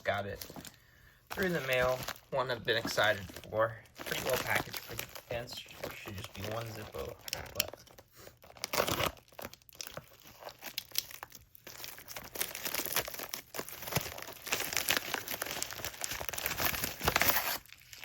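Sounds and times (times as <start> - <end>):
packing material crinkling: 0.0 - 18.0
packaging tearing: 1.3 - 18.0.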